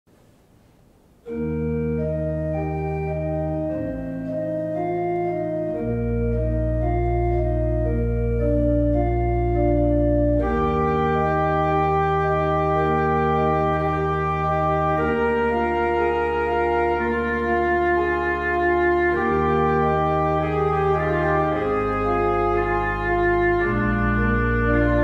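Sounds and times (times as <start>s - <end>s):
church organ playing: 1.2s - 25.0s.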